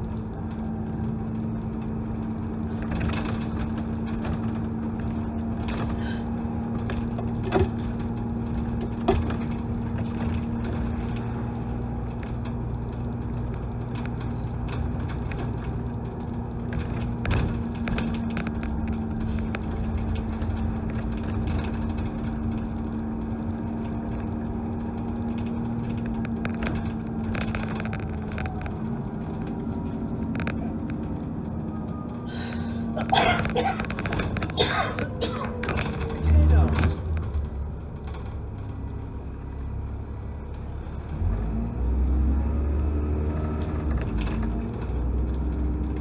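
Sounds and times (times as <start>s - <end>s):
bodywork rattles and clicks: 0.0s - 46.0s
diesel engine drone: 0.0s - 46.0s.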